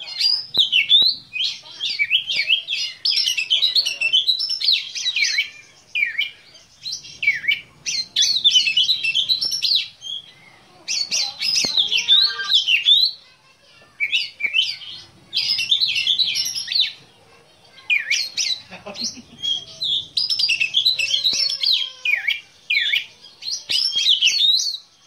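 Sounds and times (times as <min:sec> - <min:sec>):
bird singing whistles and chirps: 0:00.1 - 0:13.2, 0:14.0 - 0:17.0, 0:19.4 - 0:25.0.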